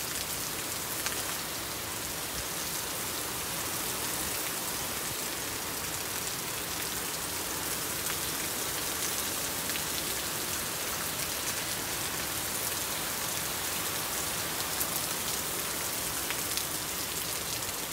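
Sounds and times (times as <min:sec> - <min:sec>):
heavy rain on wet asphalt: 0:00.0 - 0:17.9.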